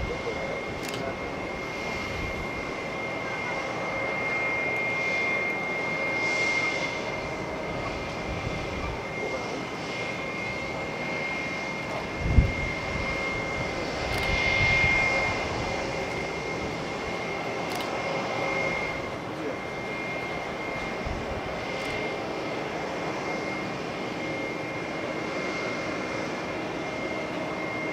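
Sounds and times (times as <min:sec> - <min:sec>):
jet engines whining and rumbling: 0:00.0 - 0:27.9.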